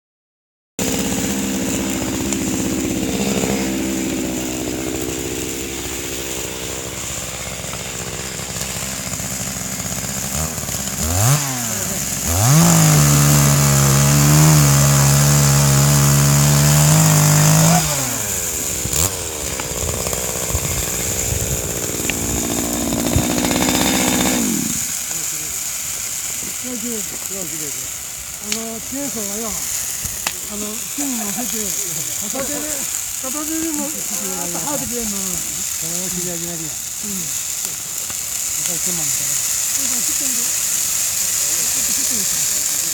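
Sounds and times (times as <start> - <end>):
chainsaw idling and revving: 0.8 - 42.9.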